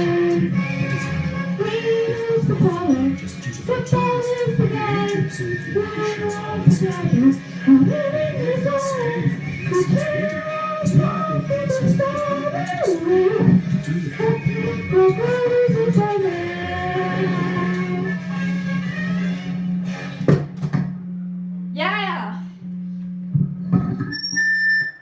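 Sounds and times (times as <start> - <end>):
person singing with music: 0.0 - 20.2.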